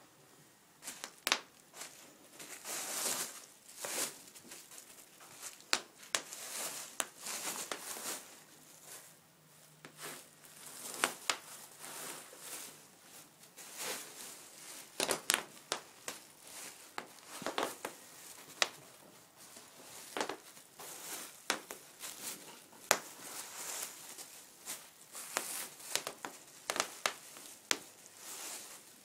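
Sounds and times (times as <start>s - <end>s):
bubble wrap crinkling: 0.8s - 29.0s.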